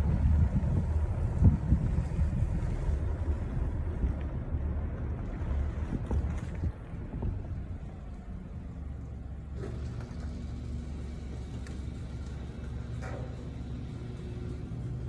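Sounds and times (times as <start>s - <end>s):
distant aircraft rumble: 0.0s - 15.0s.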